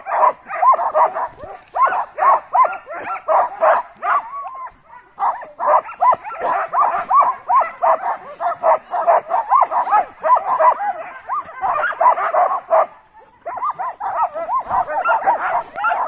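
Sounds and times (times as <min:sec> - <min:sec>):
sled dogs barking and yipping: 0:00.0 - 0:16.0.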